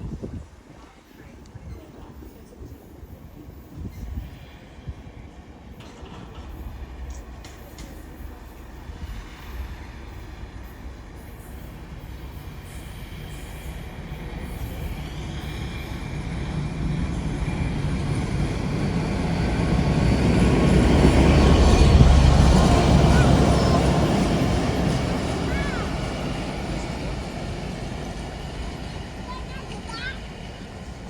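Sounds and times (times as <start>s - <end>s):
rail and wheel noise: 0.0s - 31.0s
train rumble: 0.0s - 31.0s.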